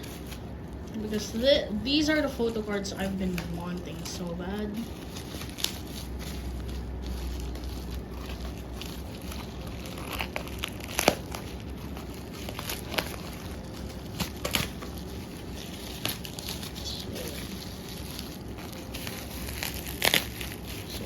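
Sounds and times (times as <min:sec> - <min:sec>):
bubble wrap crinkling: 0:00.0 - 0:21.0
bubble wrap sharp crackles: 0:00.0 - 0:21.0.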